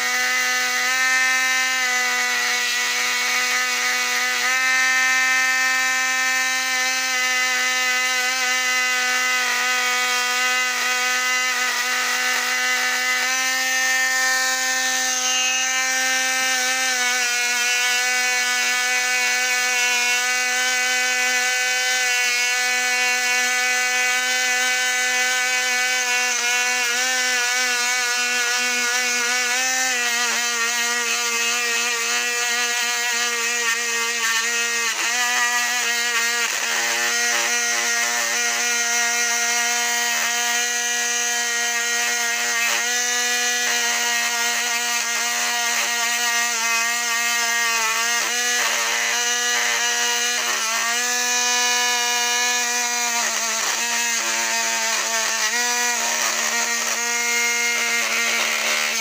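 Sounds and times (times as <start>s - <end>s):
rotary tool wire brush whine: 0.0s - 59.0s.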